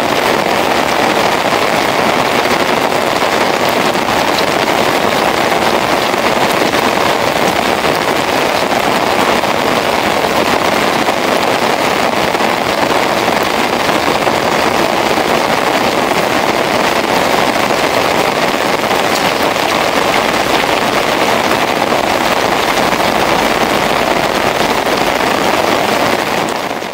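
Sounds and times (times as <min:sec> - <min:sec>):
heavy rain on wet ground: 0:00.0 - 0:26.9.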